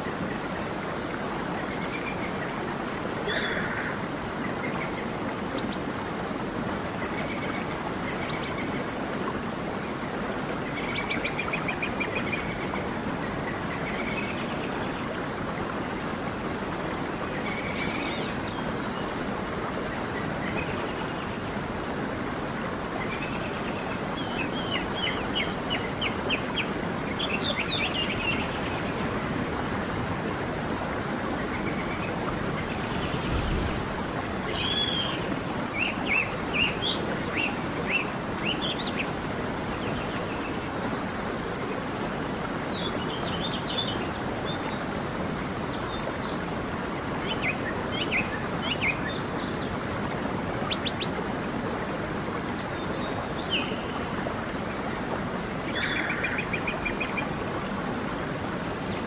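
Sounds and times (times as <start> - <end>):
songbirds chirping: 0.0 - 59.0
stream running: 0.0 - 59.0.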